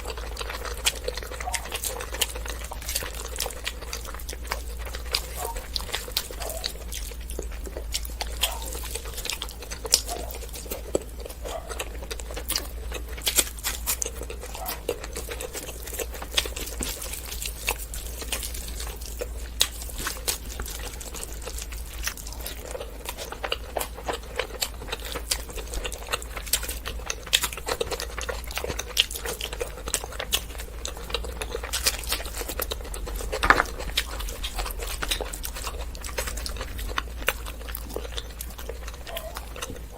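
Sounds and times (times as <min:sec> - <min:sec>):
wet chewing and lip-smacking: 0:00.0 - 0:32.6.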